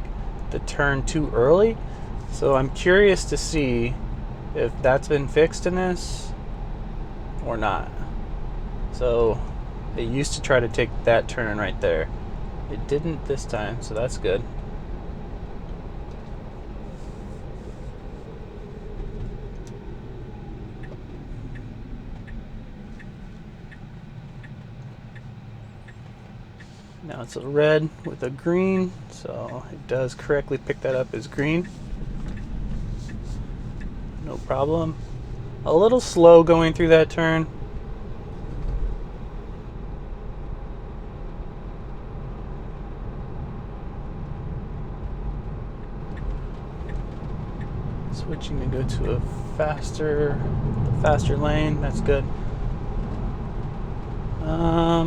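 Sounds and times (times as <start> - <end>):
road and tyre rumble: 0.0 - 55.0
turn signal ticking: 0.0 - 55.0.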